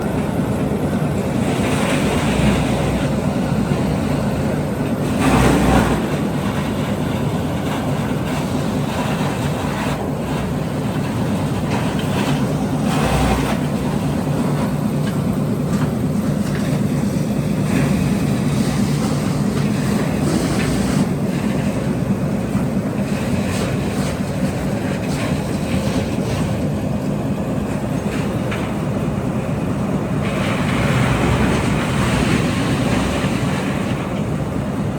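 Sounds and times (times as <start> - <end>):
wood chipper rumbling: 0.0 - 34.9.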